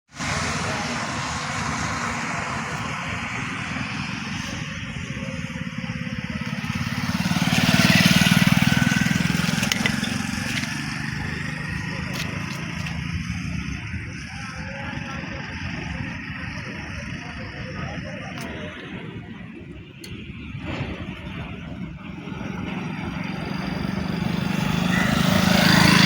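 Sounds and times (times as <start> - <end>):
broad rushing noise: 0.1 - 26.0
vehicle engine running: 0.2 - 26.0.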